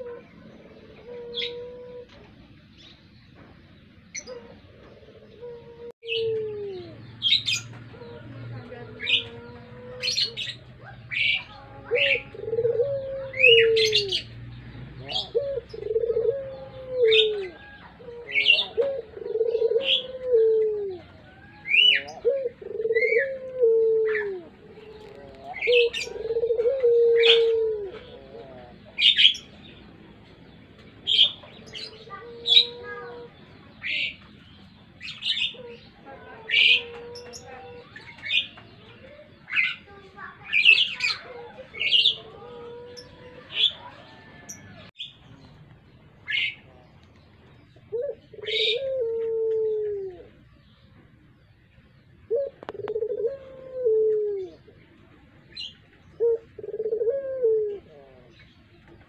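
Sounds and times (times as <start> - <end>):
dove cooing: 0.0 - 2.5, 4.1 - 34.3, 35.2 - 44.9, 46.3 - 50.6, 52.1 - 59.0
small birds chirping: 0.0 - 59.0.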